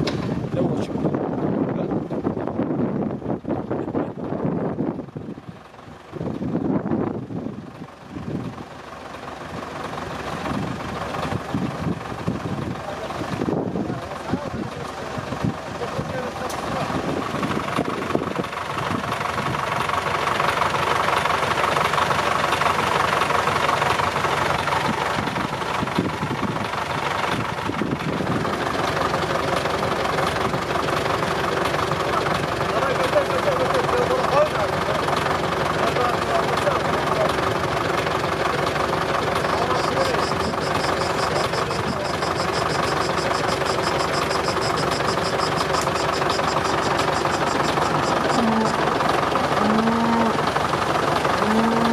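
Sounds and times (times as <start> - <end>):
engine running: 0.0 - 51.9.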